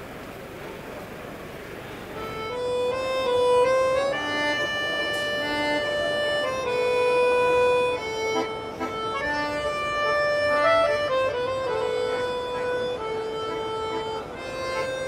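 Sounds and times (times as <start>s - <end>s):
accordions playing a tune: 2.1s - 15.0s.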